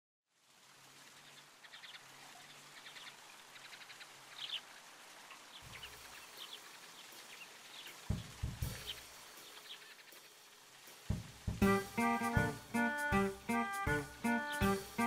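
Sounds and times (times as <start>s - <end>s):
soft hiss: 0.3s - 15.0s
birds chirping: 1.0s - 15.0s.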